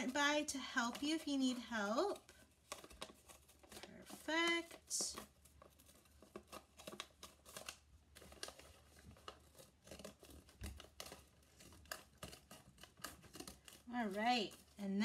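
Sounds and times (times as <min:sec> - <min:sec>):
scissors snipping carton: 0:00.0 - 0:14.8.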